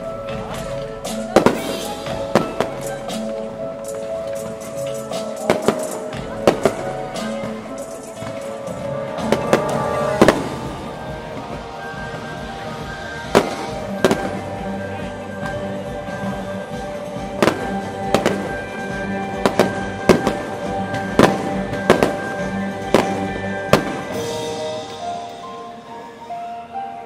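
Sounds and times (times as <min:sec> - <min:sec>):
fireworks bursting: 0:00.0 - 0:25.9
music playing: 0:00.0 - 0:27.0.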